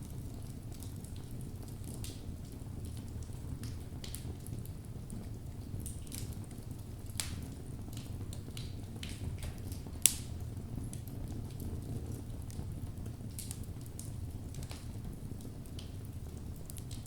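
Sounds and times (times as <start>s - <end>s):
fireplace flames rumbling: 0.0s - 17.0s
logs crackling and popping: 0.0s - 17.0s.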